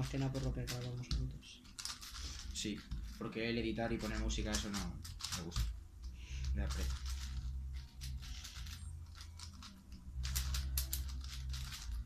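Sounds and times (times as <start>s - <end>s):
plastic puzzle clicks and rattles: 0.0s - 12.0s.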